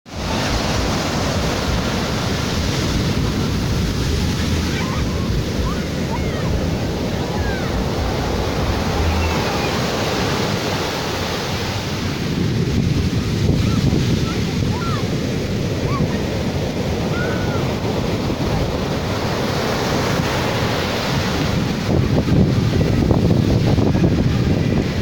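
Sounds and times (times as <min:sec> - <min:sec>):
sea surf washing ashore: 0:00.1 - 0:25.0
wind rumbling on microphone: 0:00.1 - 0:25.0.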